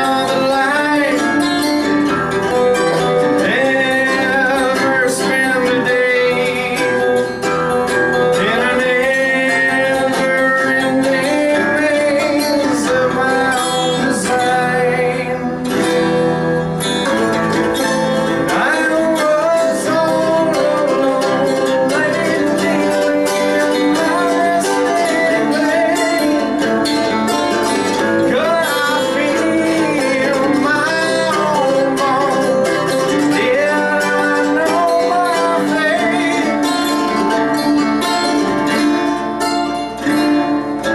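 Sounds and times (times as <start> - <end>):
acoustic guitars strummed and picked: 0.0 - 40.9
man singing: 0.0 - 40.9.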